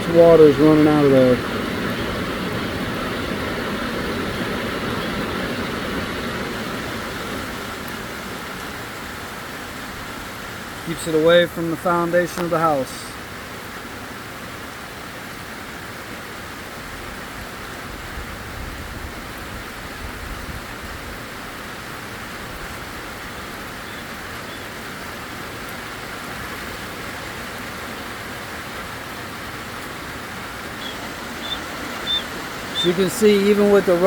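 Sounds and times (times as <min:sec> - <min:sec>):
rainwater running off: 0:00.0 - 0:14.4, 0:15.3 - 0:34.0
heavy rain hiss: 0:00.0 - 0:34.0.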